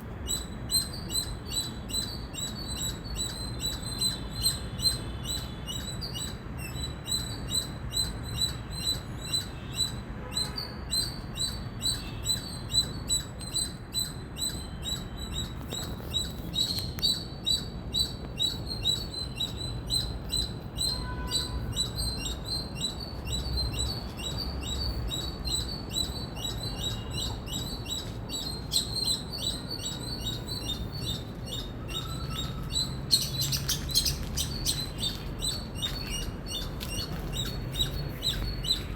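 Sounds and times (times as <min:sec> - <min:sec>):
squirrel chirping high-pitched: 0:00.2 - 0:10.0, 0:10.9 - 0:38.9.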